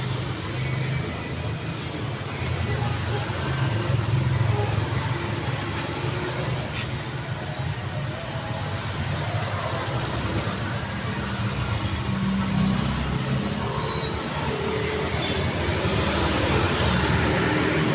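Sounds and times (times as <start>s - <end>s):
highway traffic passing: 0.0s - 17.9s.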